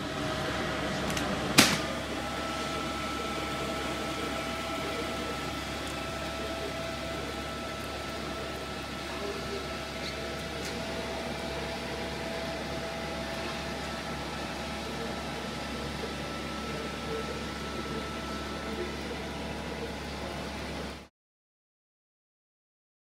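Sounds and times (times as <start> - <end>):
faint steady whine: 0.0 - 21.1
machine fans and conveyor hum: 0.0 - 21.1.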